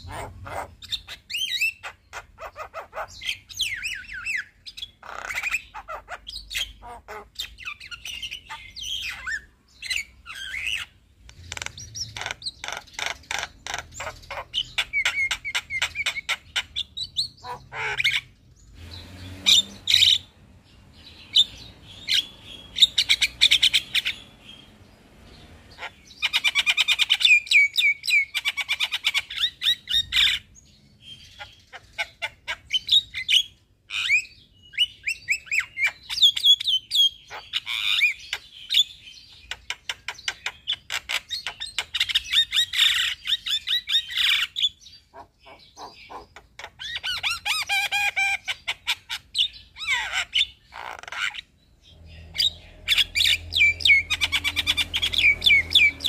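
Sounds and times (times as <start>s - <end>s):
bird singing with chattering notes: 0.0s - 56.0s.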